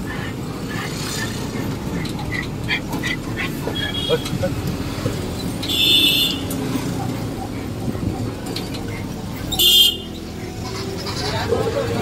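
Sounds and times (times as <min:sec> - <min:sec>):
road rumble and body rattle: 0:00.0 - 0:12.0.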